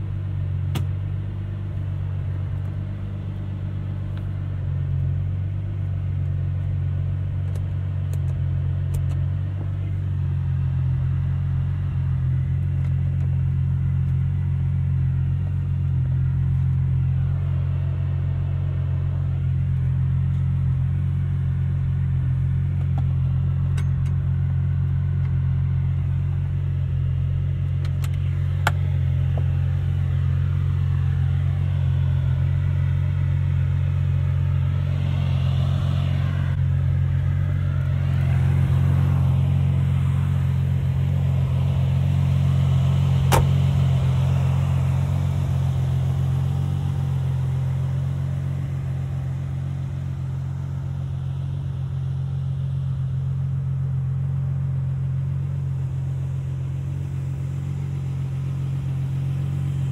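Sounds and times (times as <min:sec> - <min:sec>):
car engine droning: 0:00.0 - 0:59.9
road noise hiss: 0:00.0 - 0:59.9.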